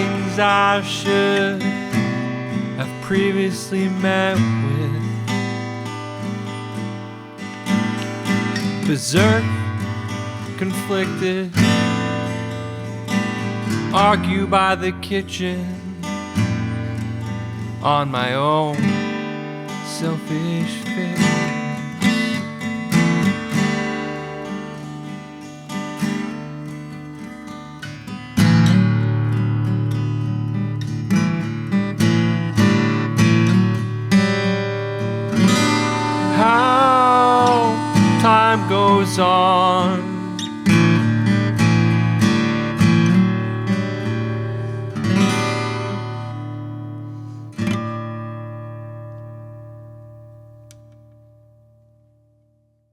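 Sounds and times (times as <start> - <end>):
acoustic guitar strumming chords: 0.0 - 52.4.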